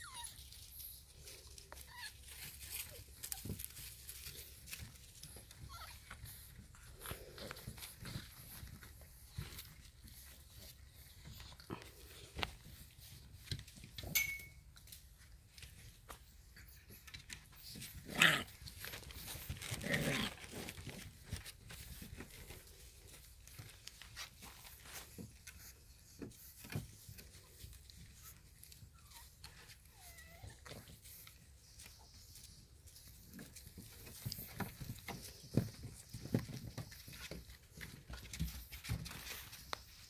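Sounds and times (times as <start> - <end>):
paws scrabbling on wooden box: 0.3 - 14.0, 15.2 - 29.9, 30.5 - 40.0.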